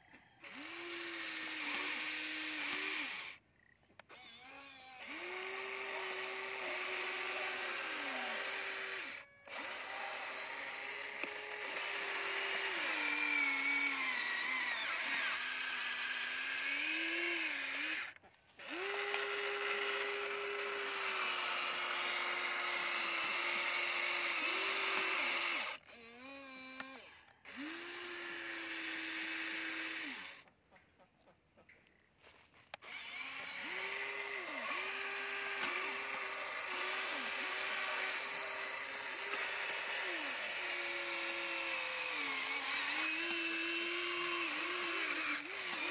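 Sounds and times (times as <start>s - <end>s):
toy excavator motors whining: 0.0s - 31.0s, 32.2s - 45.9s.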